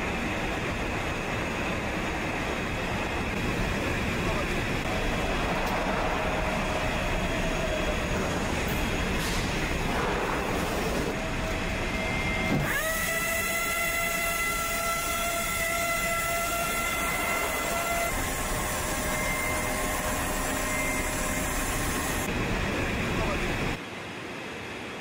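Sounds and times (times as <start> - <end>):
machine whine with steady tones: 0.0 - 23.8
machinery rumbling: 0.0 - 23.8.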